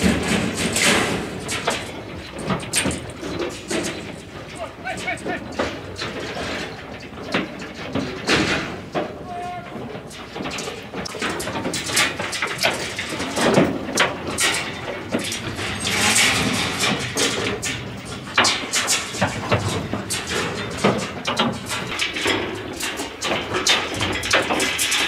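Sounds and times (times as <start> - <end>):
metal trailers knocking and clanking: 0.0 - 25.0.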